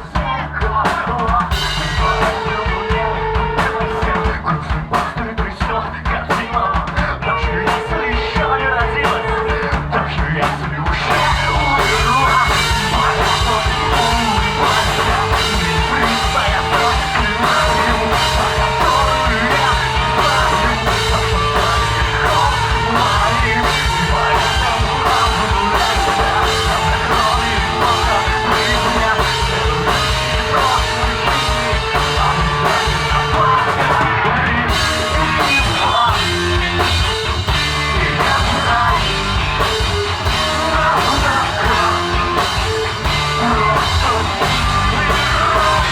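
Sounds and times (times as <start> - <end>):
fast drum beat: 0.0 - 45.9
person singing and shouting: 0.0 - 45.9
rock band playing live: 0.0 - 45.9.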